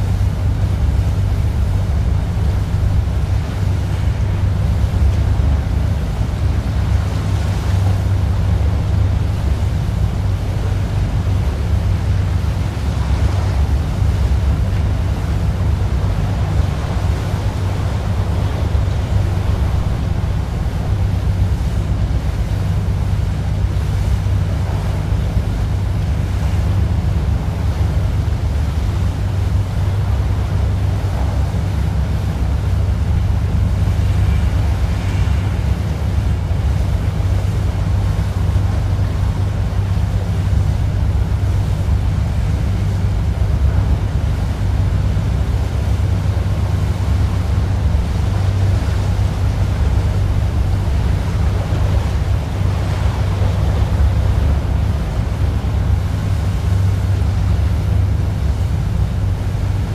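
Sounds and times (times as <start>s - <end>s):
boat engine droning: 0.0s - 59.9s
water washing past hull: 0.0s - 59.9s
wind on microphone: 0.0s - 59.9s.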